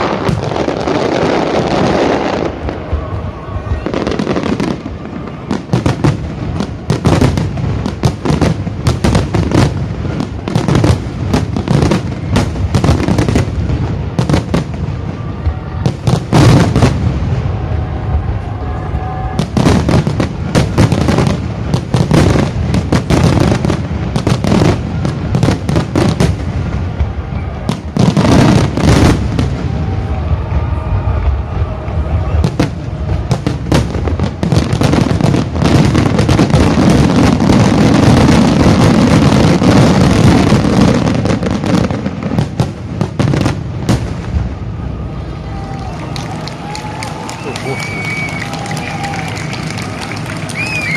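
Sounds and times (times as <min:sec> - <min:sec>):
fireworks booming and crackling: 0:00.0 - 0:50.9.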